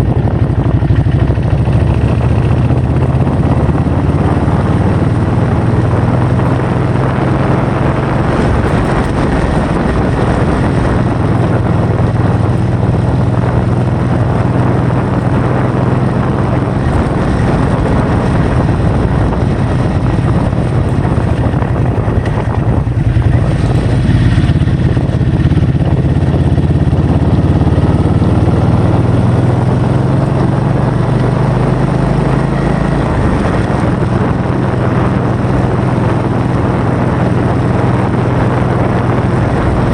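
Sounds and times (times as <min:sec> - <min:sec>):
vehicle engine hum: 0:00.0 - 0:39.9
wind rush on microphone: 0:00.0 - 0:39.9.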